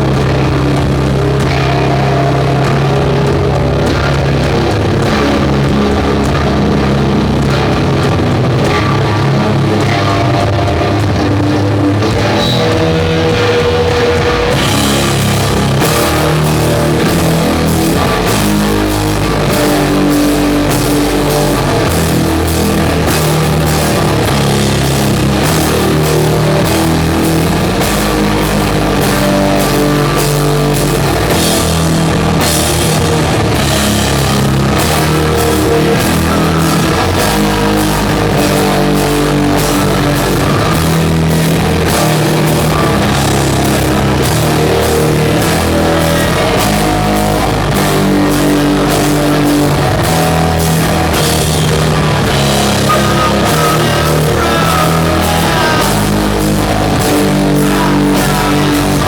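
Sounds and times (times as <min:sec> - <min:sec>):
bass guitar: 0:00.0 - 0:59.0
distorted guitars: 0:00.0 - 0:59.0
drum kit: 0:00.0 - 0:59.0.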